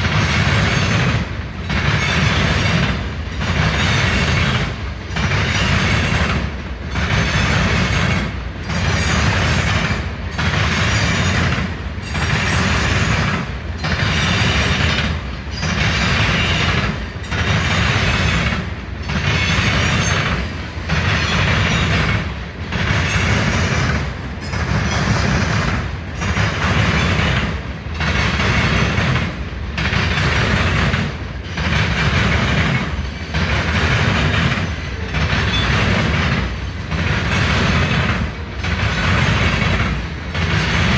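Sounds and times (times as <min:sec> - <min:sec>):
train passing close by: 0:00.0 - 0:40.9.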